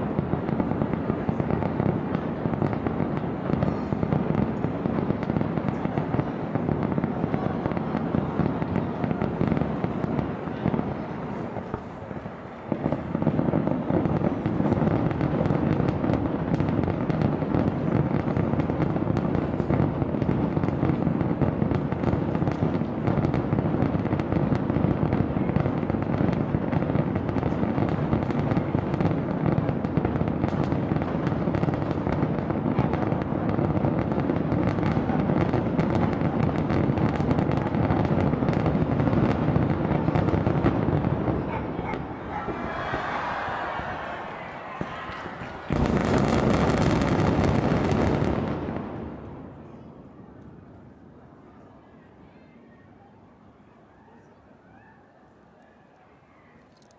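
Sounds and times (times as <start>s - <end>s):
fireworks booming and crackling: 0.0s - 51.0s.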